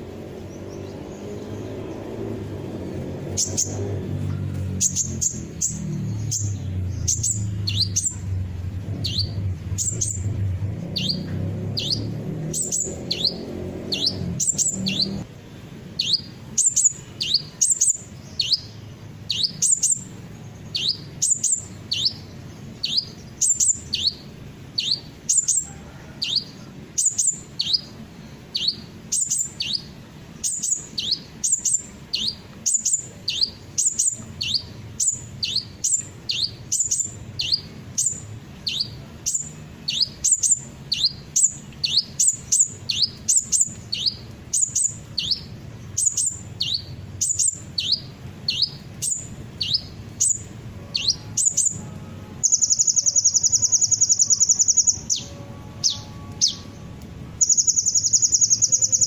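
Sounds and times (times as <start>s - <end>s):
sunbird calls: 0.0s - 59.0s.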